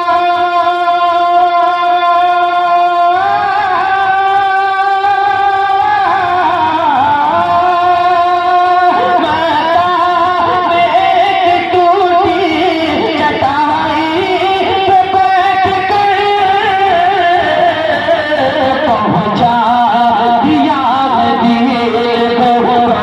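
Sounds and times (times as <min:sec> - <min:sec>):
man singing wavering notes: 0:00.0 - 0:23.0.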